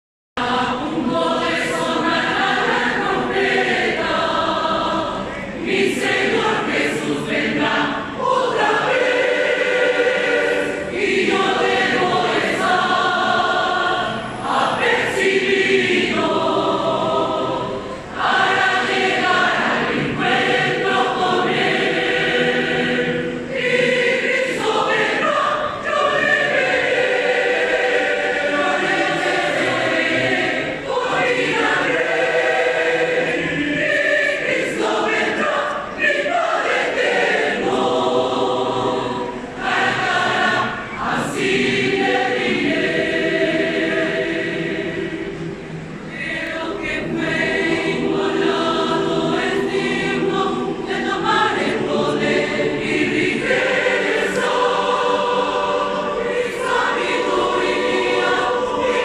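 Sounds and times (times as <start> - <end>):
choir singing a hymn: 0.4 - 59.0.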